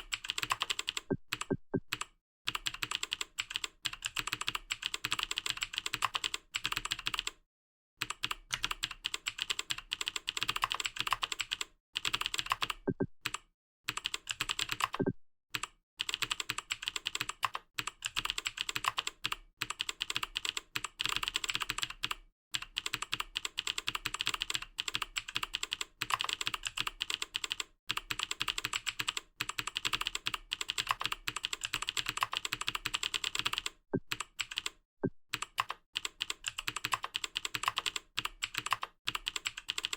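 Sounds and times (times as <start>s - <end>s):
fast typing on keyboard: 0.0s - 7.4s, 8.0s - 39.9s.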